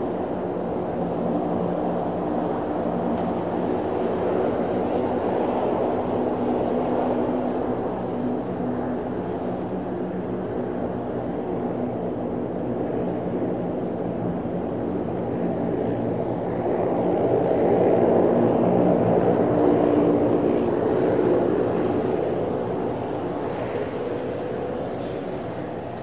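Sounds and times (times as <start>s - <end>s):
turboprop engines running: 0.0s - 26.0s.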